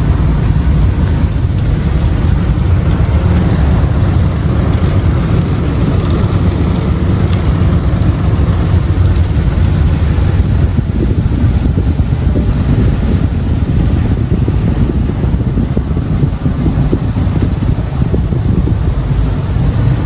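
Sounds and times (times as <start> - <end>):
car wash rushing and rumbling: 0.0 - 20.0.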